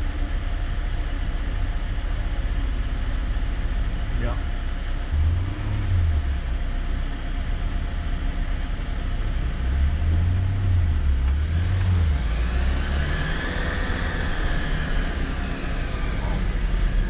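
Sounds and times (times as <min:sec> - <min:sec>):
engine rumbling under load: 0:00.0 - 0:17.0
whine: 0:00.0 - 0:17.0.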